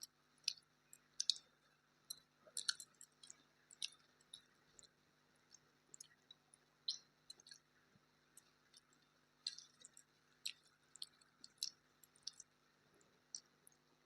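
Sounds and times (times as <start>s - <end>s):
person chewing food: 0.4s - 1.5s, 2.1s - 4.9s, 5.5s - 7.7s, 8.4s - 13.9s.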